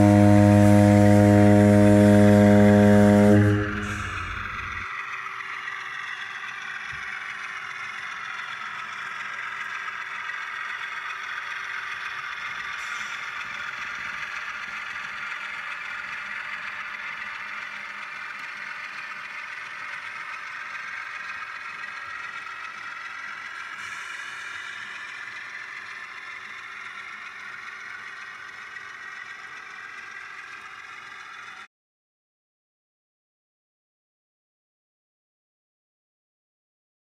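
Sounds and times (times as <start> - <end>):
model train whirring and clattering: 0.0 - 31.7.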